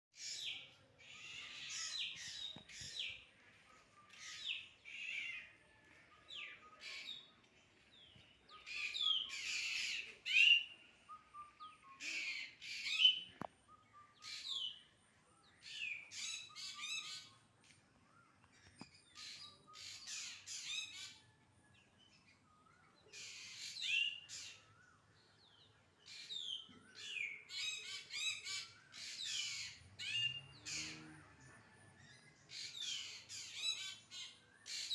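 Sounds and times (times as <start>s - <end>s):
birds chirping and squawking: 0.2s - 34.9s.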